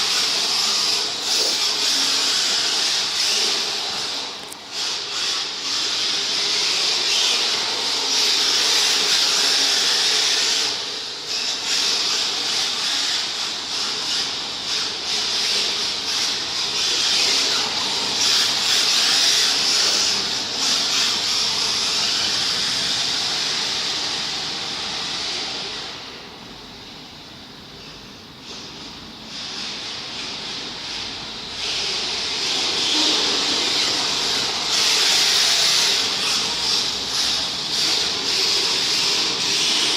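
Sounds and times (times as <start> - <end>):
model car loud steady hiss: 0.0 - 39.9.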